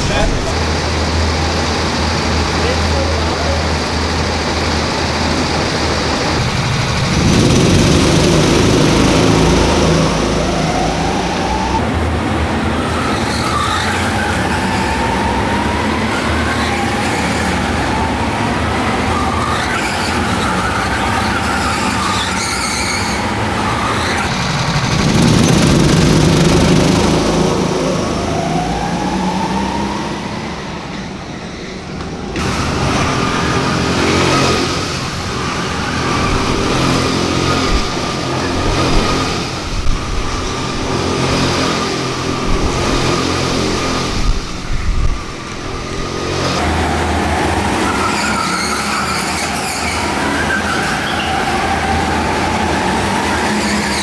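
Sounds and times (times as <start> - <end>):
go-kart engines: 0.0 - 54.0.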